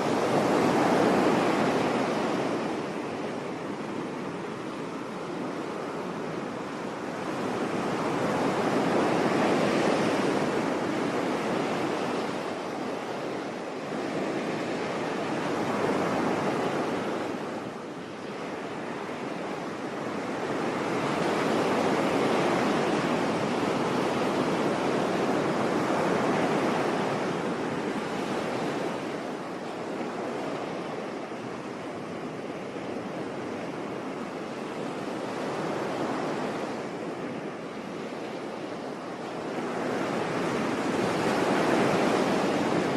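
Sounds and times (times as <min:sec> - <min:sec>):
sea waves surging onto beach: 0:00.0 - 0:42.9.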